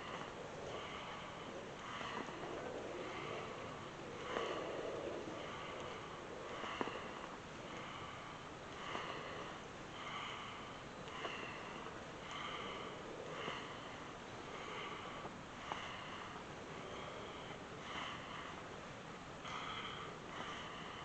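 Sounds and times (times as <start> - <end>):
rhythmic breathing through nose: 0.0 - 21.0.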